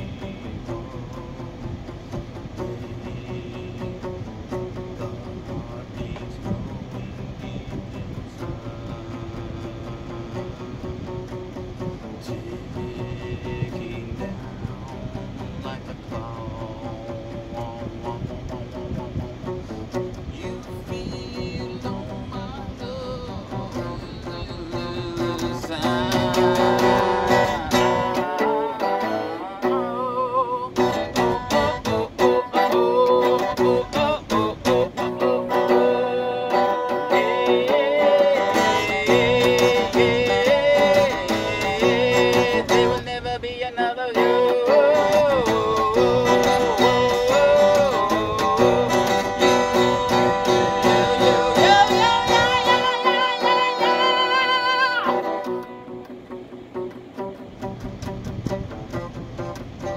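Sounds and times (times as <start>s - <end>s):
man singing: 0.0s - 57.8s
acoustic guitar strumming: 0.0s - 59.9s.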